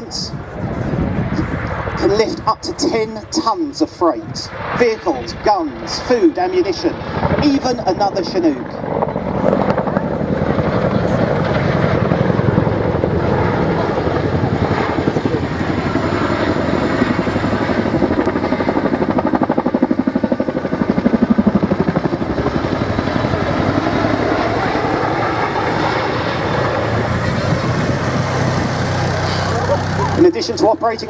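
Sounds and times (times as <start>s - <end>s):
helicopter rotor chop: 0.0s - 31.0s.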